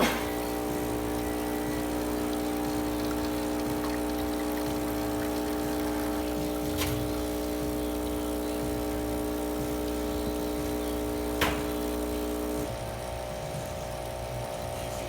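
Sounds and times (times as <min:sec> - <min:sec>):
espresso machine pump buzzing: 0:00.0 - 0:15.0.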